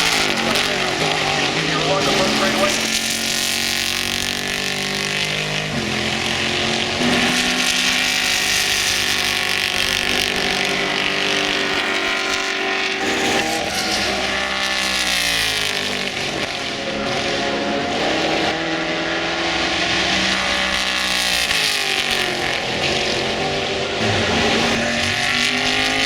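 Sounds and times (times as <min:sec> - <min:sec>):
race car engine running loud: 0:00.0 - 0:26.0.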